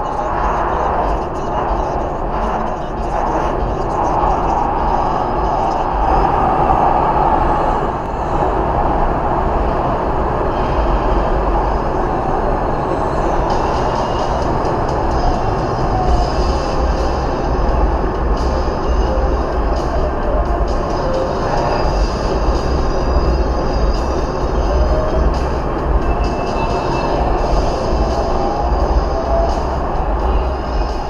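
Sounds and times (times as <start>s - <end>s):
deep low rumble: 0.0s - 31.0s
tyre and wind noise: 0.0s - 31.0s.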